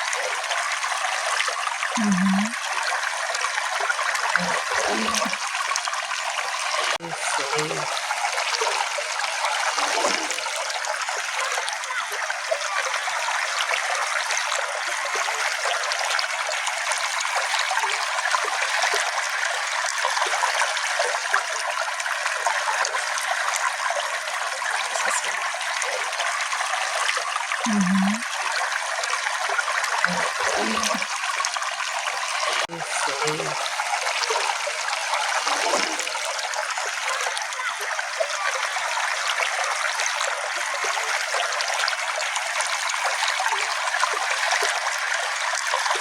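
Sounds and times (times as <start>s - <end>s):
low water gurgles: 0.0s - 46.0s
small stream flowing: 0.0s - 46.0s.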